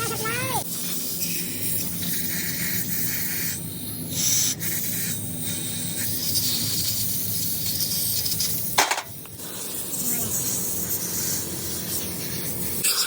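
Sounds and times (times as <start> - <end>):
hissing spray: 0.0 - 13.0
steady low hum: 0.0 - 13.0.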